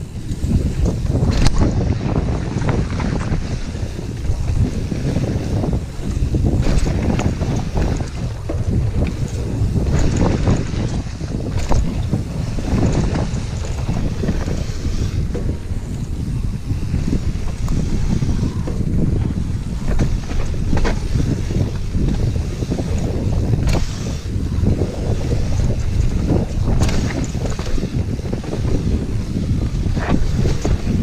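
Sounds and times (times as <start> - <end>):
bike knocking on bumps: 0.0 - 31.0
bike rattling: 0.0 - 31.0
wind buffeting microphone: 0.0 - 31.0.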